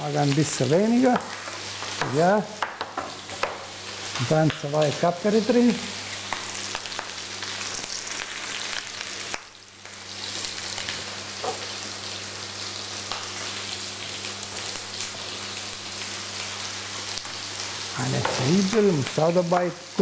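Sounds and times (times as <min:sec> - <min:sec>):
food sizzling and crackling in oil: 0:00.0 - 0:20.0.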